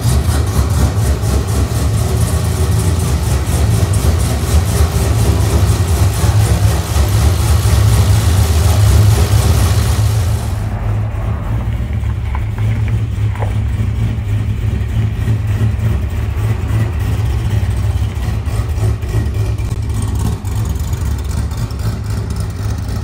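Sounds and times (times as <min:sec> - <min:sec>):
car engine exhaust rumble: 0:00.0 - 0:23.0.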